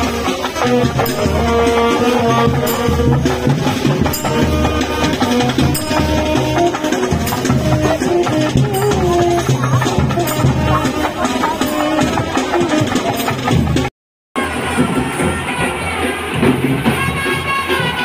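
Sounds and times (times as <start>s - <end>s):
sharp percussive hit: 0.0s - 15.4s
music with drum beat and melody: 0.0s - 18.0s.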